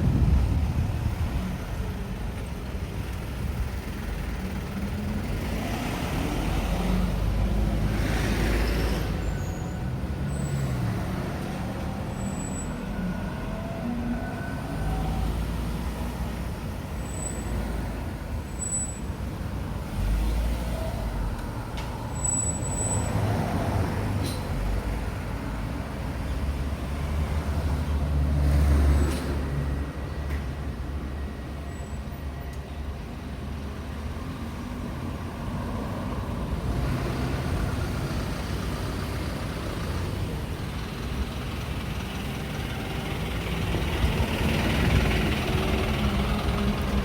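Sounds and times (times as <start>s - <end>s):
low traffic rumble: 0.0s - 47.0s
vehicles passing: 0.0s - 47.0s.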